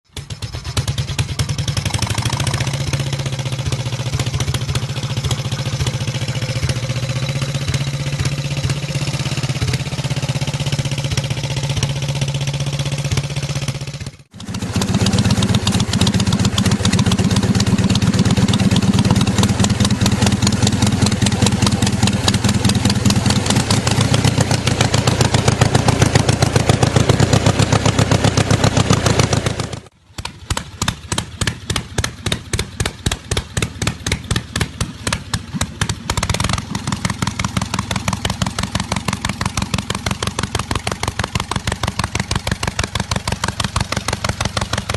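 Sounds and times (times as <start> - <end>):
motorcycle engine running: 0.1 - 44.9.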